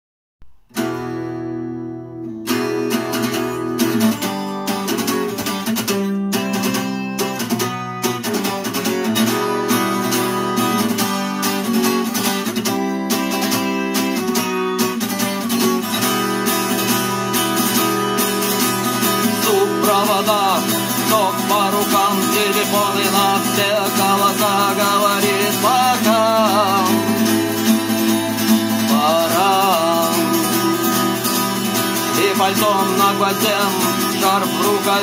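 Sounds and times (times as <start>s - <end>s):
acoustic guitar strumming: 0.4s - 35.0s.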